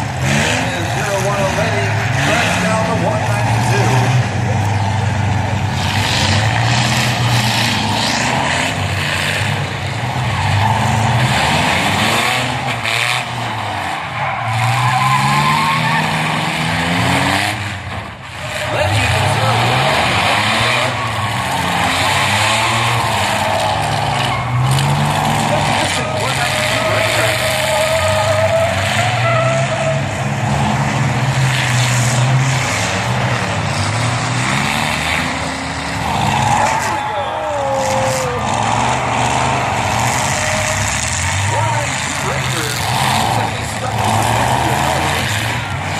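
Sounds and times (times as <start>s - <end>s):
tires skidding: 0.0s - 45.9s
truck engines revving: 0.0s - 45.9s.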